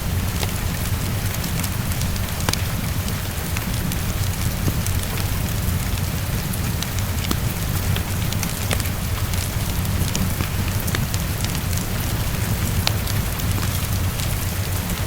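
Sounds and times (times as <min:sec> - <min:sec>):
heavy rain against a window: 0:00.0 - 0:15.0
wood fire crackling: 0:00.0 - 0:15.0.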